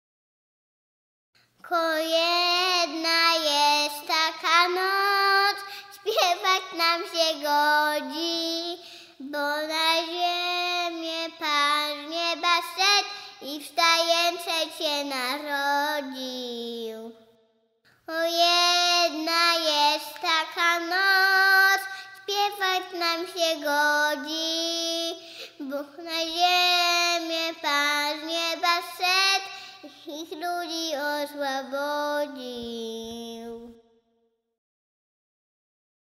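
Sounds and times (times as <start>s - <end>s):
child singing: 1.6s - 17.4s, 18.0s - 33.8s.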